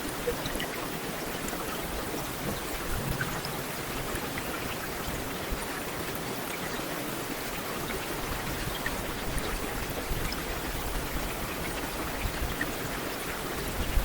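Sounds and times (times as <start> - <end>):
raindrops pattering: 0.0 - 14.0.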